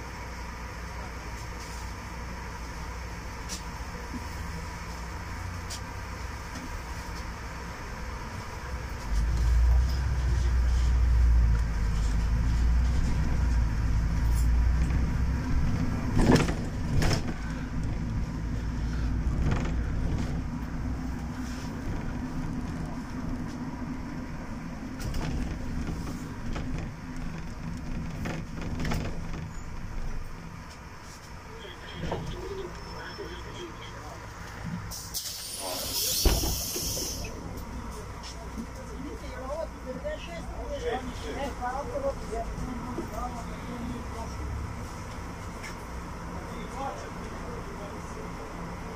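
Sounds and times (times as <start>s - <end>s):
bus engine rumbling: 0.0s - 48.9s.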